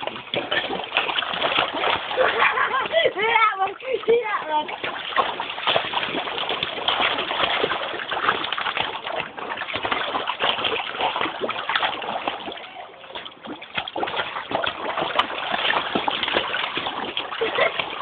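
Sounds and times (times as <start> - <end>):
dogs splashing in water: 0.0 - 18.0.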